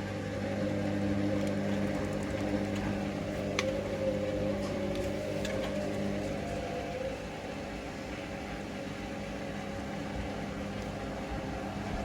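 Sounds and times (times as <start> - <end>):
washing machine spinning: 0.0 - 12.0
wavering motor whine: 0.0 - 12.0.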